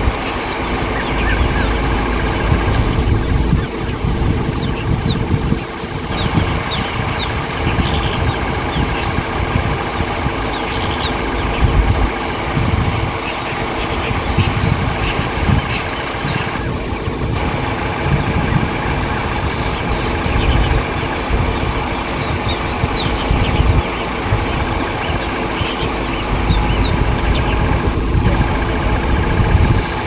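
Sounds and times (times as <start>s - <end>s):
birds chirping: 0.0s - 30.0s
vehicle engine idling: 0.0s - 30.0s.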